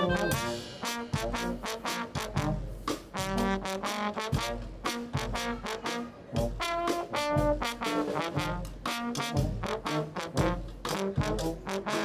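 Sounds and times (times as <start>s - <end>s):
jazz brass band music: 0.0s - 12.0s
trombone and trumpet playing: 0.0s - 12.0s.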